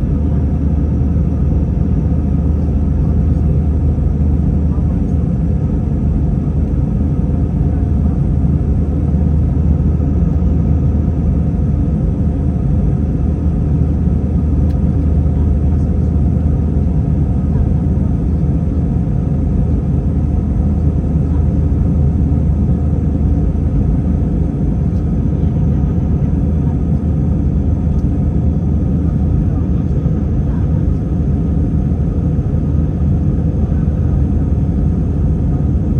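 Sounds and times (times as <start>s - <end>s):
jet engine rumble in cabin: 0.0s - 35.9s.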